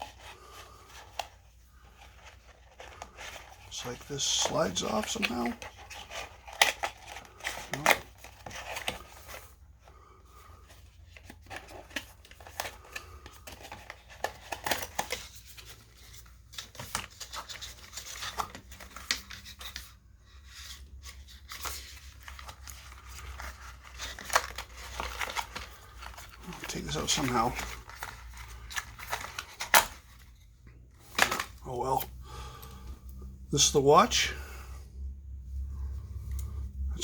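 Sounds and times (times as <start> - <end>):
cardboard packaging being handled: 0.0 - 32.1.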